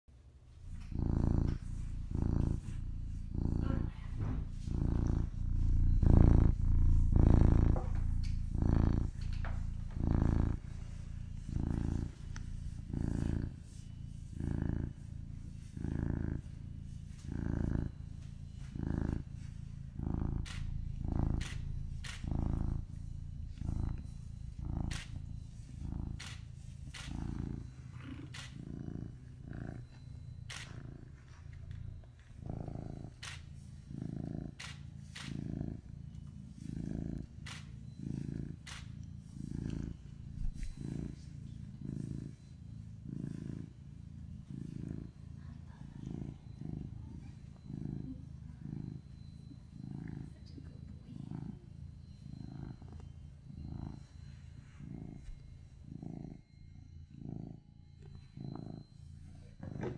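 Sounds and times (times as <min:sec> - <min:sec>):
cat purring: 0:00.1 - 0:59.9.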